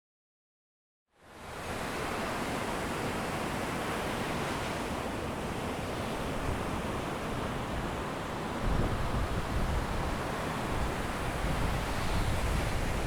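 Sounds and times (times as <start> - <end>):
sea surf: 1.2 - 13.0.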